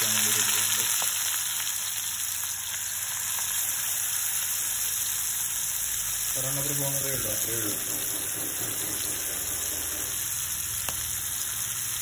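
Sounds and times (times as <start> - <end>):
mussel meat frying in oil: 0.0 - 12.0.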